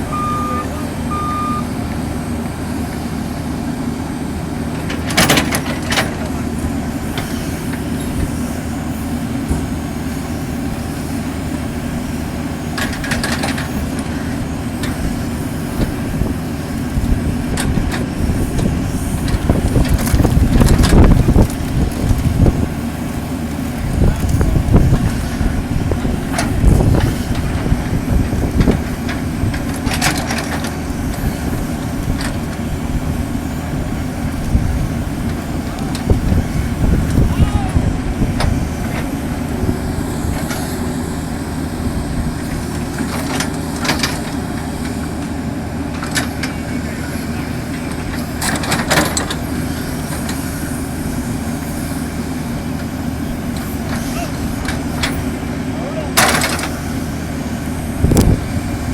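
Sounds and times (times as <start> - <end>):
backhoe diesel engine running: 0.0 - 58.9.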